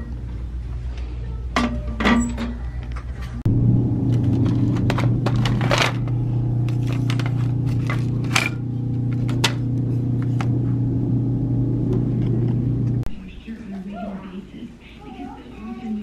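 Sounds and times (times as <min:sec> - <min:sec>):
steady low hum: 0:02.7 - 0:16.0.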